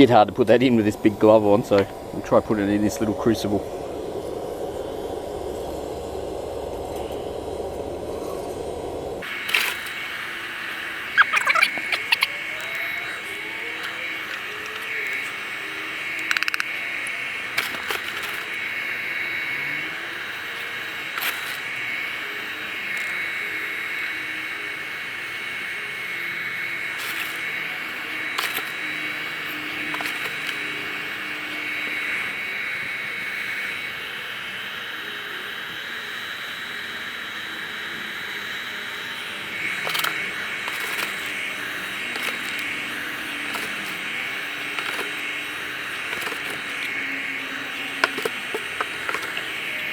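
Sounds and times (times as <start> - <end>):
air blower hissing: 4.0 - 49.9.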